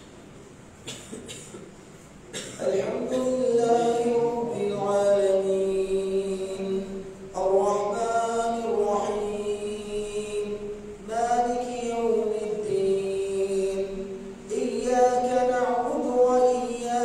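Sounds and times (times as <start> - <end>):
man chanting melodically: 2.6 - 17.0.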